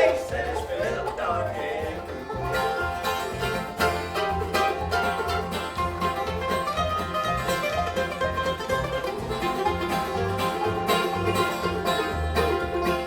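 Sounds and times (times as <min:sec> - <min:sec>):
banjo picking: 0:00.0 - 0:13.0
bass line: 0:00.0 - 0:13.0
guitar: 0:00.0 - 0:13.0.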